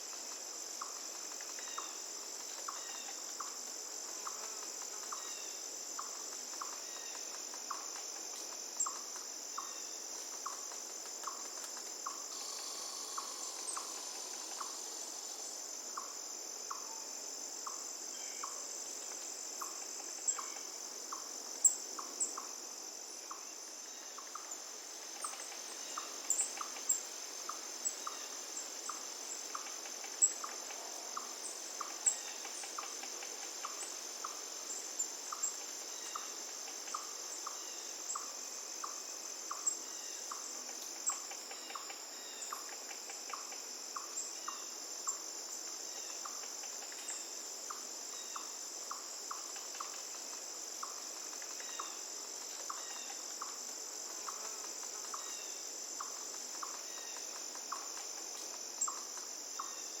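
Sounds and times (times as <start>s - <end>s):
high-pitched insect trill: 0.0s - 60.0s.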